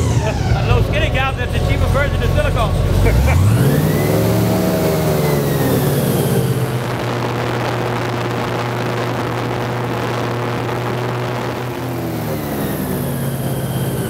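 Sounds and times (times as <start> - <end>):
airboat engine droning: 0.0 - 14.0.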